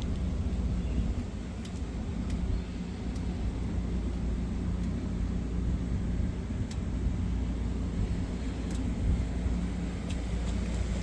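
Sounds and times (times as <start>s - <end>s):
car engine rumbling: 0.0s - 11.0s
faint steady hum: 0.0s - 11.0s.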